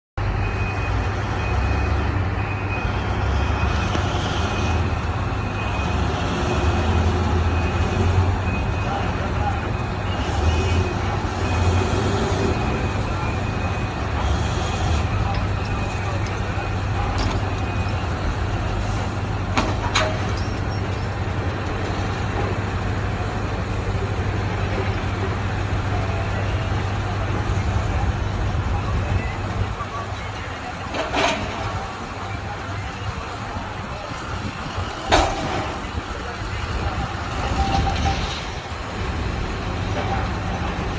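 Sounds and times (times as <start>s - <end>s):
deep diesel engine rumble: 0.2s - 40.9s
heavy machinery humming: 0.2s - 40.9s.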